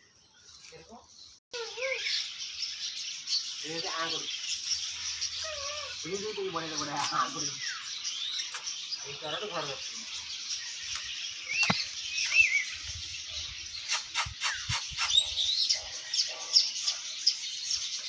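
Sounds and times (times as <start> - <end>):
caged birds chirping: 0.0 - 18.0
downward-sweeping bird calls: 1.6 - 18.0
whistled bird notes: 1.6 - 18.0.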